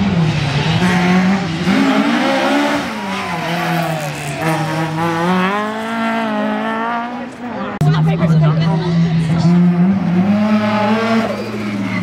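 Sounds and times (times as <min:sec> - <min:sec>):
car engine revving hard: 0:00.0 - 0:07.3, 0:08.9 - 0:12.0.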